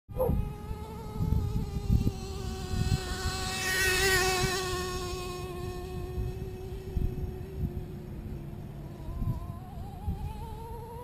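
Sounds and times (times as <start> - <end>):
wind buffeting microphone: 0.1 - 11.0
truck engine droning: 0.4 - 11.0.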